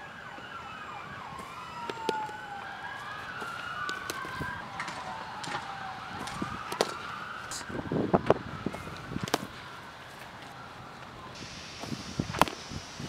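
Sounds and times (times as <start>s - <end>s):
emergency vehicle sirens wailing: 0.0s - 13.0s.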